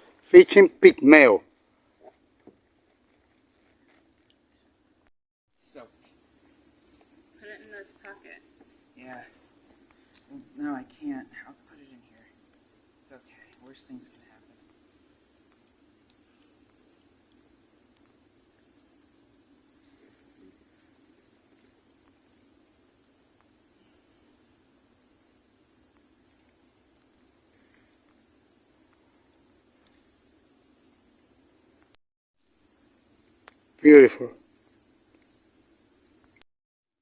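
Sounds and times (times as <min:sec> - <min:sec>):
night insects trilling: 0:00.0 - 0:36.4.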